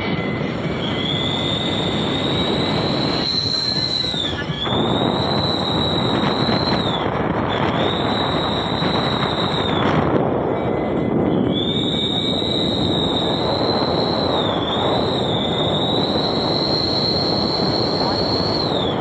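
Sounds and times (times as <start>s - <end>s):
car exhaust rush: 0.0s - 19.0s
high steady exhaust whistle: 0.0s - 19.0s.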